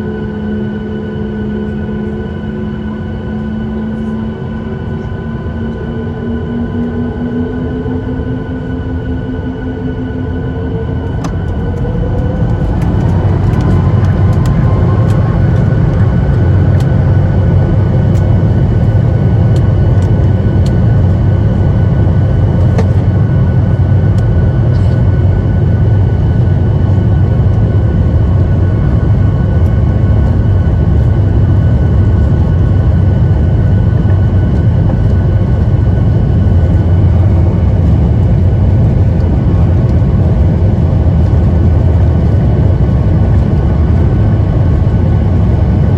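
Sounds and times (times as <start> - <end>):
loud steady engine noise: 0.0 - 45.9
jet engines spooling up: 5.0 - 45.9.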